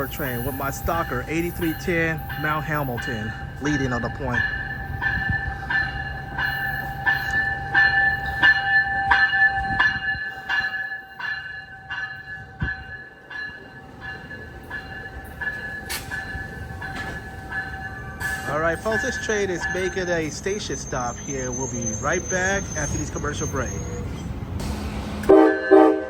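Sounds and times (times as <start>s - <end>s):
bell ringing steadily: 0.0s - 24.3s
train rumble: 0.0s - 26.0s.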